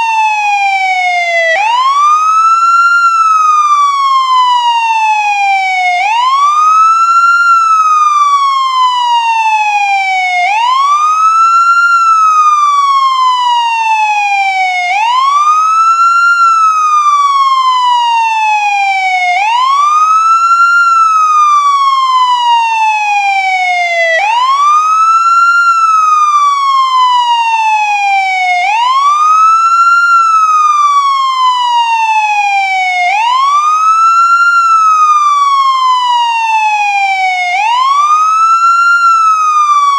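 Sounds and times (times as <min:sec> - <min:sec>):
ambulance wail siren: 0:00.0 - 0:39.9.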